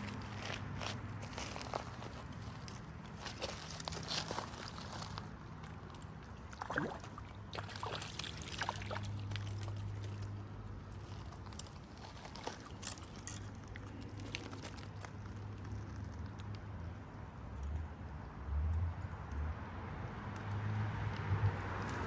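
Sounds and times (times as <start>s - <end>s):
creek water trickling: 0.0s - 17.8s.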